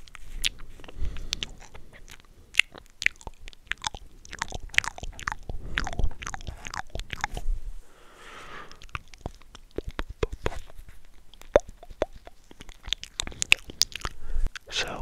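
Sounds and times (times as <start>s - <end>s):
mouth clicks and pops: 0.0s - 7.5s, 8.6s - 15.0s.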